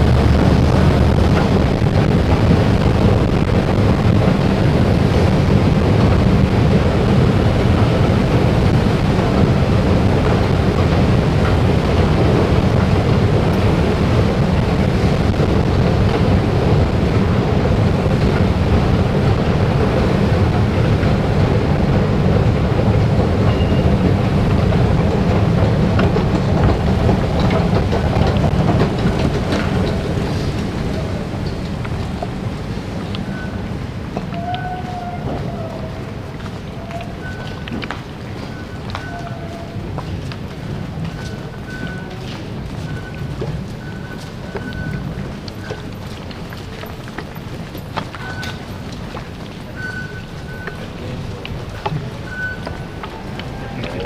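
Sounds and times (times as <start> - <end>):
escalator rumble and hum: 0.0 - 54.0.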